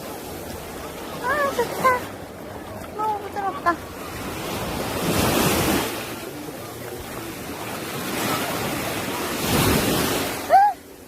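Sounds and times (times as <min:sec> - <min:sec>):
waves breaking on beach: 0:00.0 - 0:11.0.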